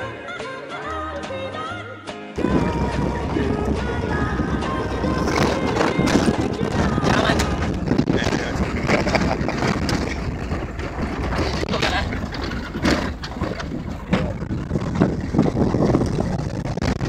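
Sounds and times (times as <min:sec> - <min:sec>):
knocks and rattles: 0:02.4 - 0:17.0
truck engine and road rumble: 0:02.4 - 0:17.0
wind buffeting microphone: 0:02.4 - 0:17.0.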